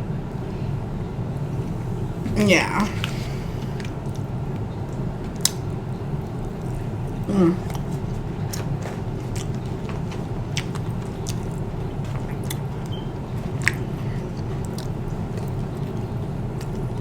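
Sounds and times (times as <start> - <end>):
steady low hum: 0.0 - 17.0
person chewing food: 2.9 - 17.0.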